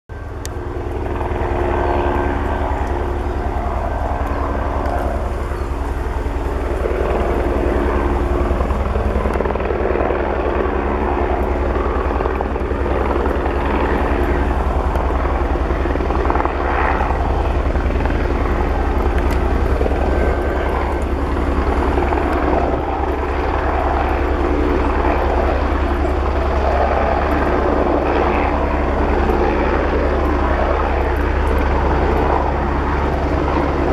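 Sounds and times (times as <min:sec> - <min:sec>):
helicopter engine hum: 0:00.1 - 0:33.9
helicopter rotor beating: 0:00.1 - 0:33.9.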